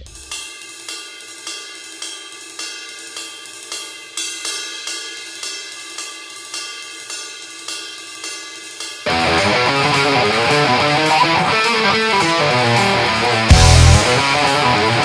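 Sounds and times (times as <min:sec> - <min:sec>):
hi-hat and cymbal beat: 0:00.0 - 0:15.0.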